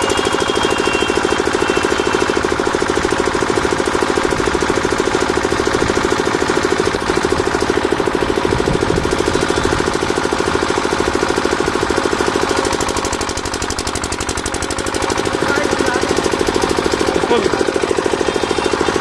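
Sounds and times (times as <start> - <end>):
small engine knocking: 0.0 - 19.0.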